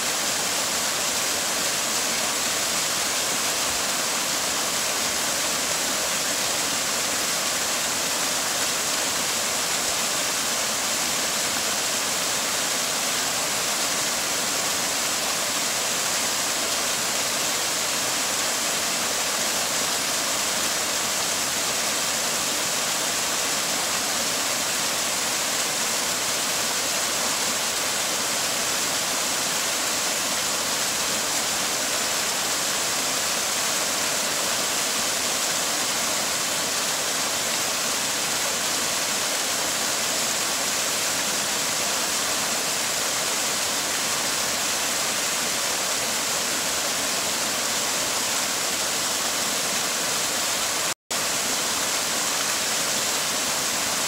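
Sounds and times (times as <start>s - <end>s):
water cascading over rocks: 0.0s - 54.0s.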